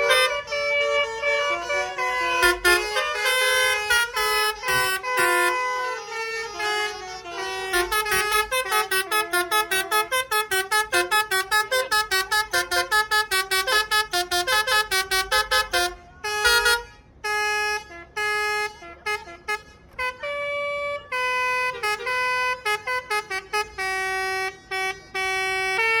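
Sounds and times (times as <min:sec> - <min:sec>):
musical air horns playing a tune: 0:00.0 - 0:26.0.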